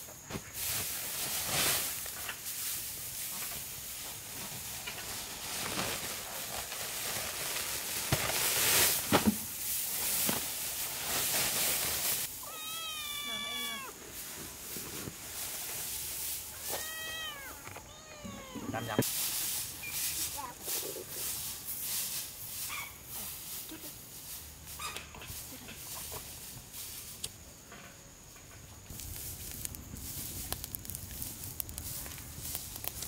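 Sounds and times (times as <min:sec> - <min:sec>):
rustling: 0:00.2 - 0:27.3, 0:28.8 - 0:33.0.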